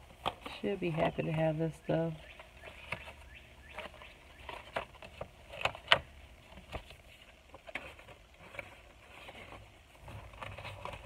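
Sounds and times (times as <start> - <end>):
light crinkles of packaging: 0.0 - 11.0.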